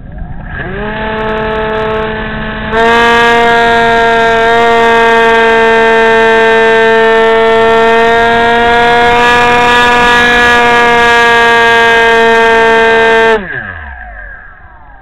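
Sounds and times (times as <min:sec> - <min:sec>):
electric motor propeller whine: 0:00.0 - 0:15.0.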